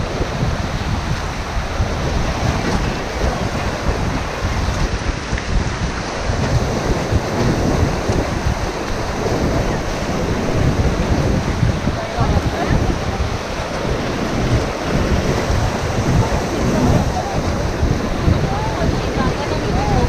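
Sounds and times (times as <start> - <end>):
river water rushing: 0.0 - 20.0
wind buffeting microphone: 0.0 - 20.0.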